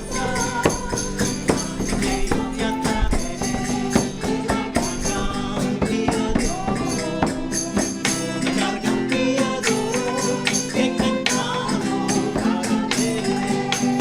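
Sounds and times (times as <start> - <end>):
background music with percussion: 0.0 - 14.0.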